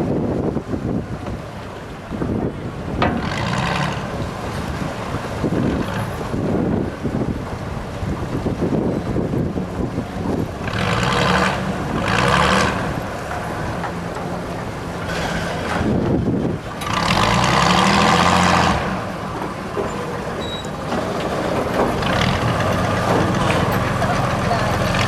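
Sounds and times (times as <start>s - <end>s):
ferry engine droning: 0.0s - 25.0s.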